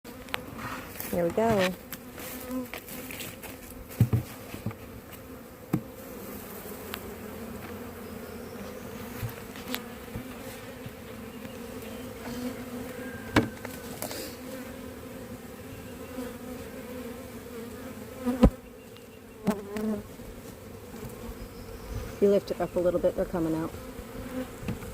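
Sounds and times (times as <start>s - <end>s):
bee swarm buzzing: 0.1s - 24.9s.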